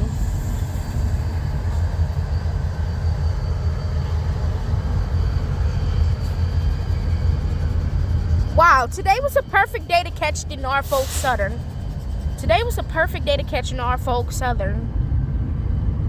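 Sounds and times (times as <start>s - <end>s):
diesel locomotives rumbling: 0.0s - 16.0s.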